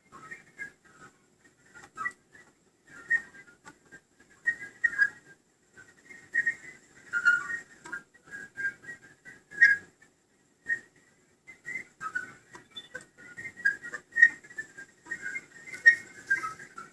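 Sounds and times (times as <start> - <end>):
high whistling chirps and squeaks: 0.1 - 10.0, 10.7 - 16.9.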